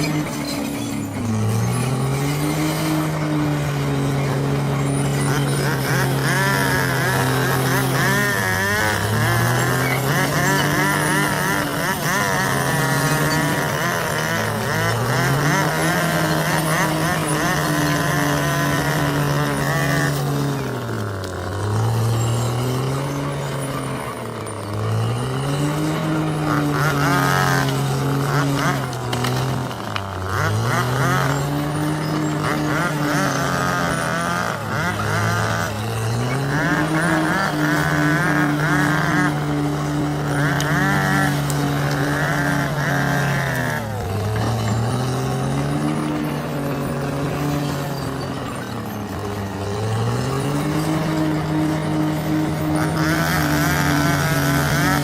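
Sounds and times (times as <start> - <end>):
bulldozer diesel engine under load: 0.0 - 55.0
higher whine and clatter: 0.0 - 55.0.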